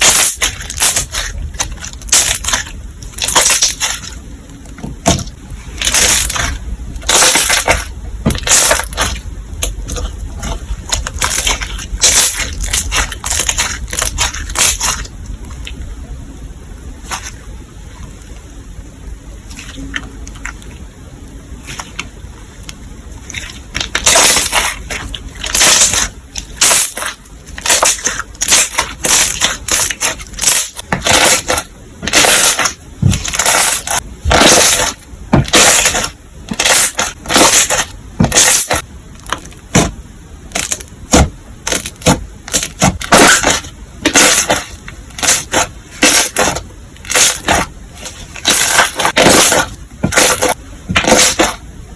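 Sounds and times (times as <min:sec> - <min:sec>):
slime squishing: 0:00.0 - 0:15.8, 0:17.0 - 0:18.4, 0:19.4 - 0:20.9, 0:21.5 - 0:51.6.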